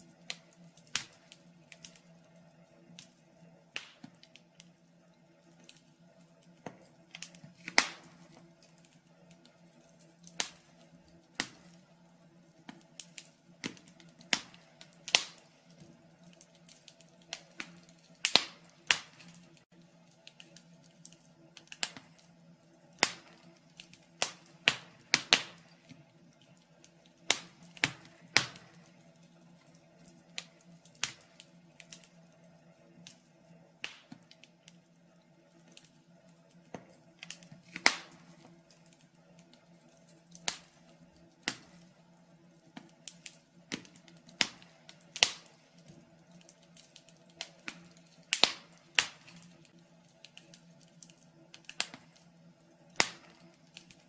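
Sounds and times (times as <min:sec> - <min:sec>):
low steady hum: 0:00.0 - 0:54.0
wood fire crackling: 0:00.0 - 0:54.0.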